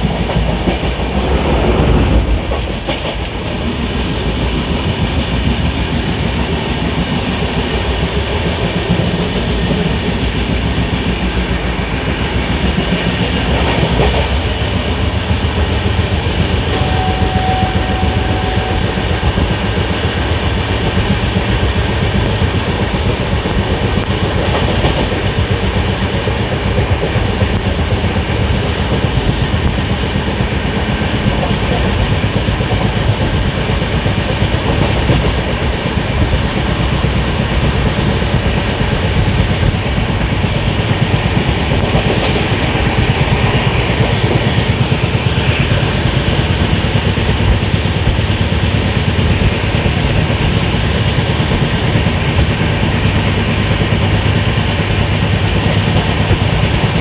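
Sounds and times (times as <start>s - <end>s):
train wheels rumbling and rattling: 0.0s - 57.0s.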